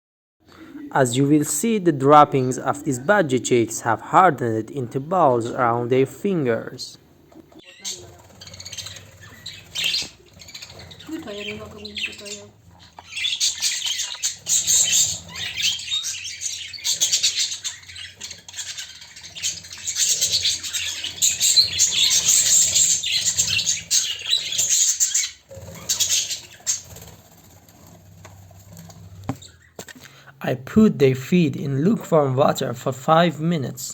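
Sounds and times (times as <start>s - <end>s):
bird chicks squawking: 0.5s - 29.9s.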